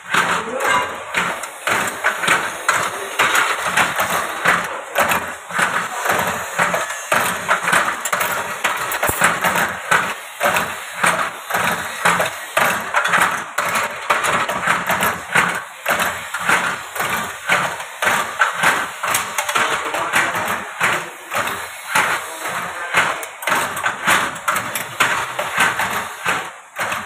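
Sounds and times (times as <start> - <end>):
machine clattering: 0.0 - 27.0.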